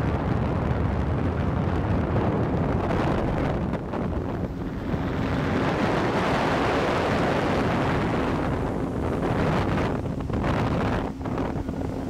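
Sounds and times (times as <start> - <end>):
water rushing past hull: 0.0 - 12.0
wind buffeting microphone: 0.0 - 12.0
boat motor running: 0.1 - 12.0.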